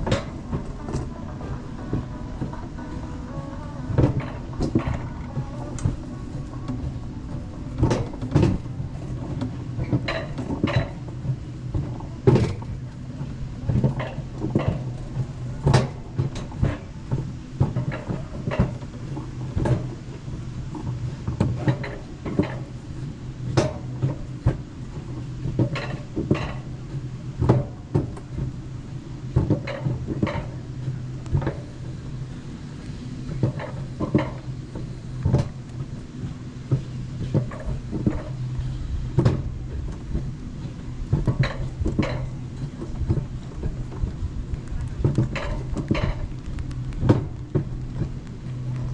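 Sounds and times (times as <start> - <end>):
sled rattling on steel track: 0.0 - 48.9
steady low hum: 0.0 - 48.9.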